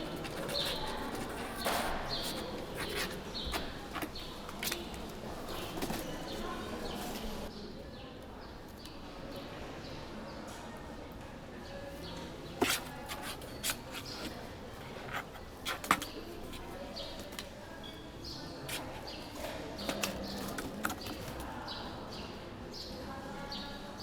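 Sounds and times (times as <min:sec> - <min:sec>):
small birds chirping: 0:00.0 - 0:10.1, 0:11.6 - 0:24.0.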